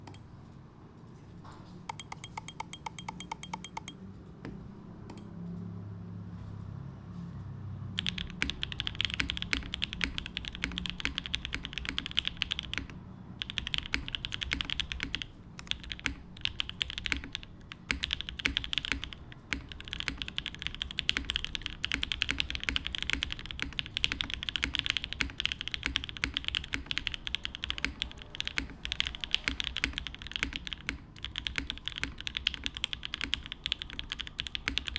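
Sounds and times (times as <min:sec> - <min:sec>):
evenly spaced clicks: 0:00.0 - 0:00.2, 0:01.9 - 0:04.0, 0:08.0 - 0:34.9
mechanical keyboard typing: 0:01.9 - 0:04.0, 0:08.0 - 0:34.9.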